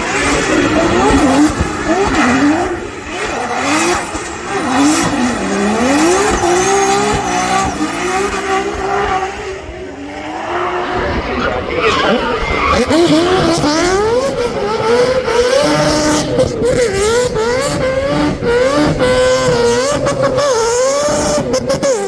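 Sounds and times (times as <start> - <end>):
racing car engine revving: 0.0 - 22.0.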